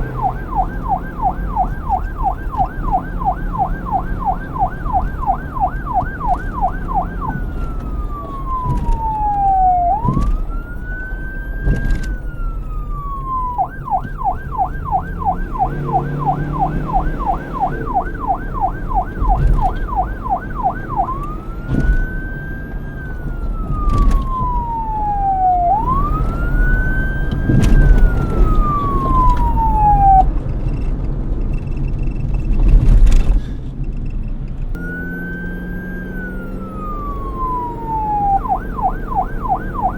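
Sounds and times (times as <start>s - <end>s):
police siren wailing and yelping: 0.0s - 30.3s, 34.8s - 39.9s
low vehicle rumble: 0.0s - 39.9s.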